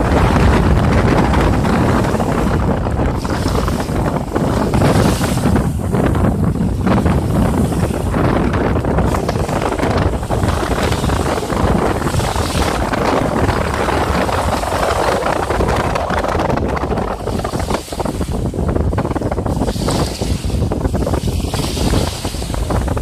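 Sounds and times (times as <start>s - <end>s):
sea waves: 0.0s - 23.0s
wind buffeting microphone: 0.0s - 23.0s.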